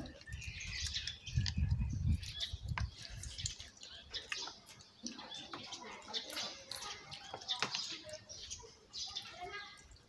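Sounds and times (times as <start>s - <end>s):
chewing sounds: 0.0s - 10.0s.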